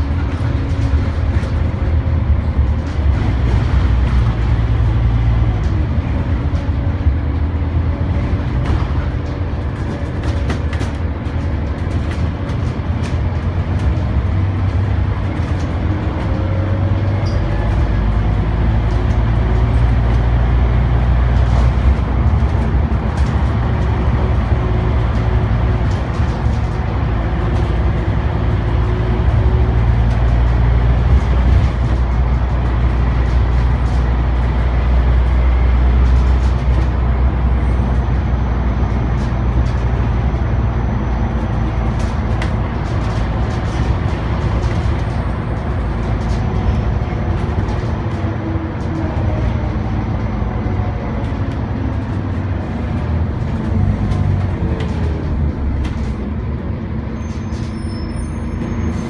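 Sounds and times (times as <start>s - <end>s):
bus body rattling: 0.0s - 59.0s
bus engine running: 0.0s - 59.0s.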